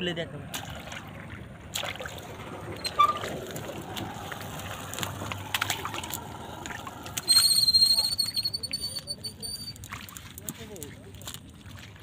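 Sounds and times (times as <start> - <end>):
muddy water sloshing and trickling: 0.4 - 12.0.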